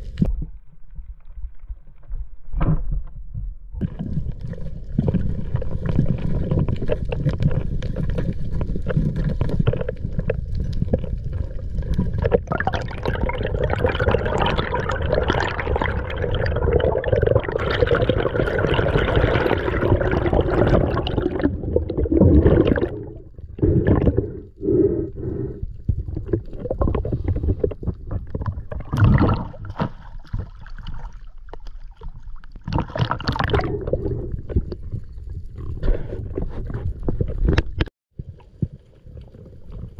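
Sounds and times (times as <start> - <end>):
water rushing underwater: 3.8 - 37.6
water gurgles and splashes: 3.8 - 39.9.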